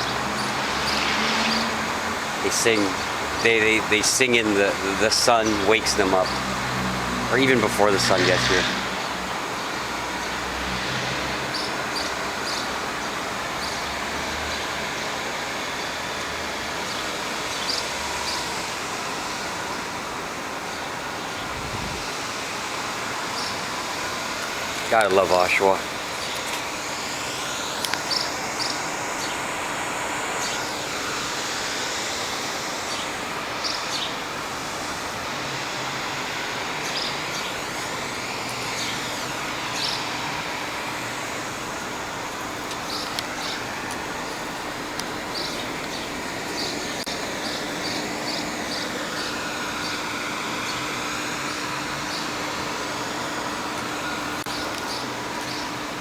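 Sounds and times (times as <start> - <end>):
birds chirping: 0.0 - 10.6, 11.2 - 16.2, 16.8 - 56.0
road traffic: 0.0 - 56.0.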